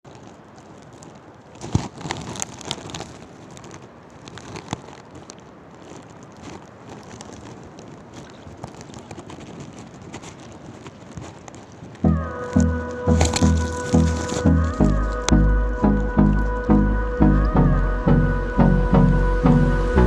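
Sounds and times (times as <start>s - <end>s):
crackling clicks: 0.0s - 17.8s
water: 0.0s - 18.3s
wind: 0.0s - 20.0s.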